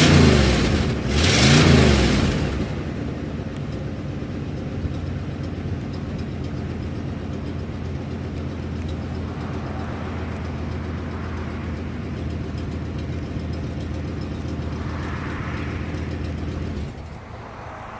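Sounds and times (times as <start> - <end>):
engine running with exhaust leak: 0.0 - 17.9.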